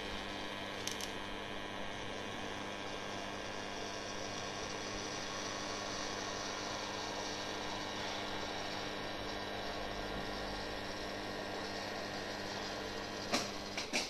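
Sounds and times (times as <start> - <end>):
electrical hum: 0.0 - 14.0
welding arc hissing: 0.0 - 14.0.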